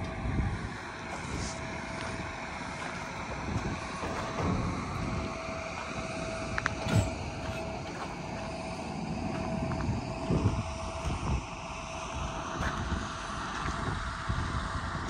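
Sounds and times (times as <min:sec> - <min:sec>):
low vehicle rumble: 0:00.0 - 0:14.8
wind gusting on microphone: 0:00.0 - 0:15.0.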